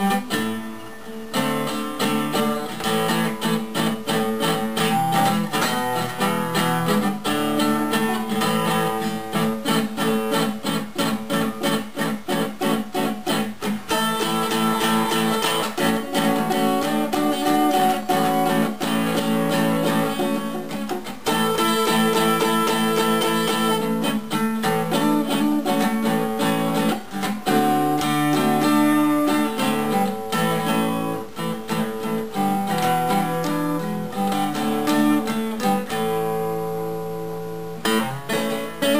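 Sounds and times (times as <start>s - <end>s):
acoustic guitar strummed chords: 0.0s - 38.9s
picked guitar notes: 0.0s - 38.9s.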